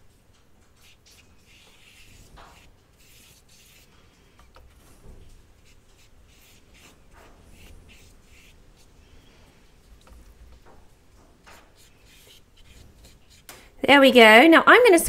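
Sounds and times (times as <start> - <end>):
paintbrush brushing on paper: 0.6 - 13.5.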